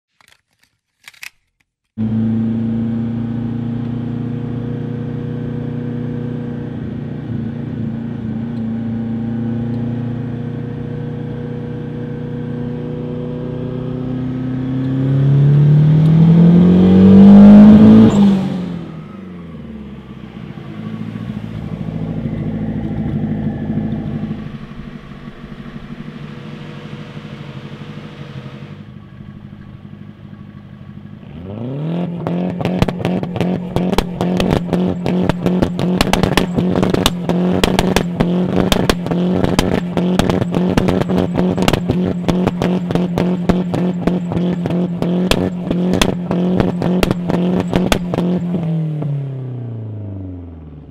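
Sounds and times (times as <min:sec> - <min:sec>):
car engine accelerating: 0:02.0 - 0:50.9.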